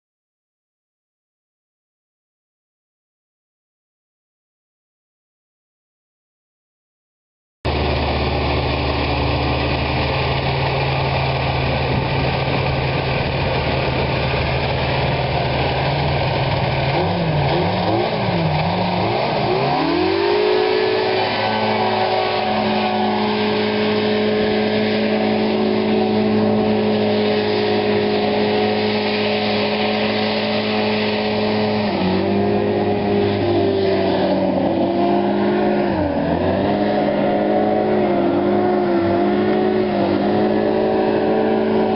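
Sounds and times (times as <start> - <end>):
hovercraft engine and fan revving: 7.7 - 41.9.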